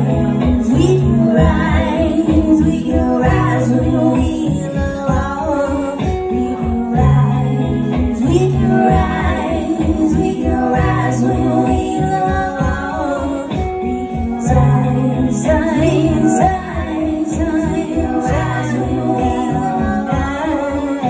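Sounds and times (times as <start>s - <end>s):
electric guitars: 0.0s - 21.0s
keyboard: 0.0s - 21.0s
woman singing: 0.0s - 21.0s.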